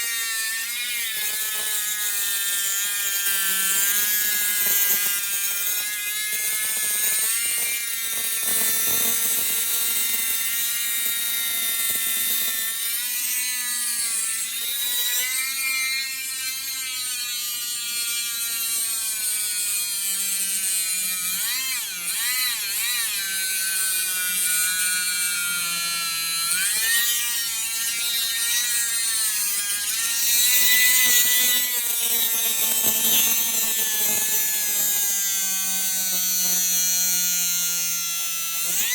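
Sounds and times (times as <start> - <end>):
rotary tool grinding shell: 0.0 - 38.9.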